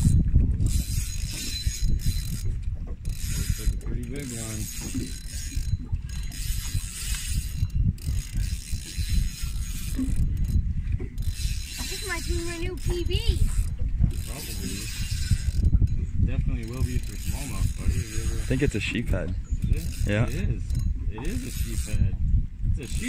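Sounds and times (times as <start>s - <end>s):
fishing reel whirring and clicking: 0.0s - 23.0s.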